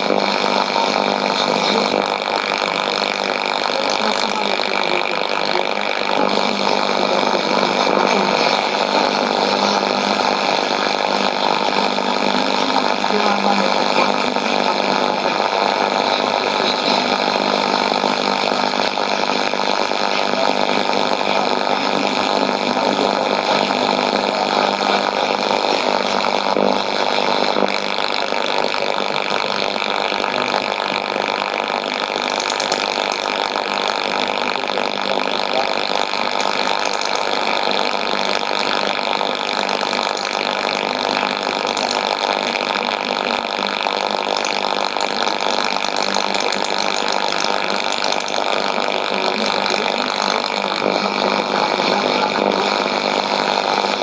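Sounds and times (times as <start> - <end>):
faint steady radio tones: 0.0 - 54.0
shortwave radio static hiss: 0.0 - 54.0.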